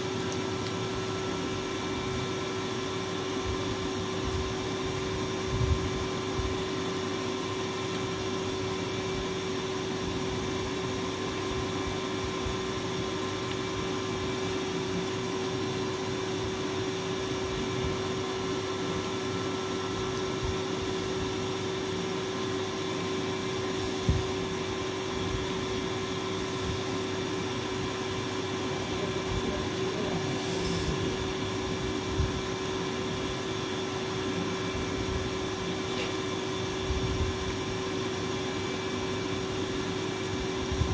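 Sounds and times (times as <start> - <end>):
machine hum and hiss: 0.0 - 40.9.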